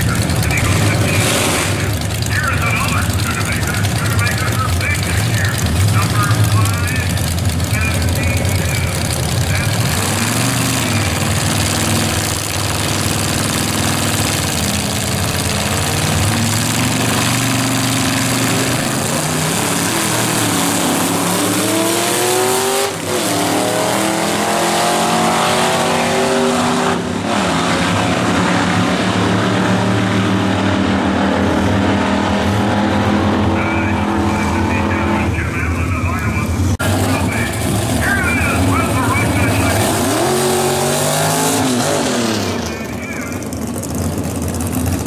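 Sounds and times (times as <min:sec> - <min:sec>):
drag car engines revving: 0:00.0 - 0:45.0.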